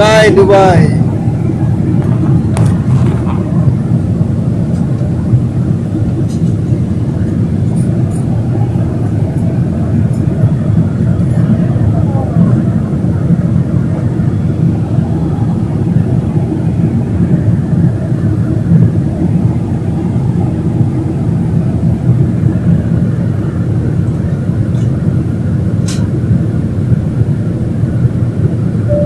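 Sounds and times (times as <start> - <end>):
airliner cabin engine drone: 0.0 - 29.0.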